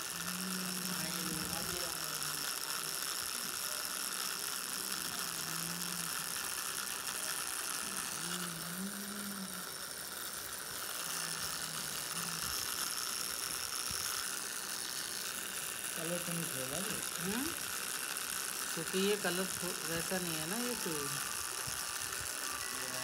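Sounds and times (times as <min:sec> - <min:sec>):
tattoo machine buzzing: 0:00.0 - 0:23.0.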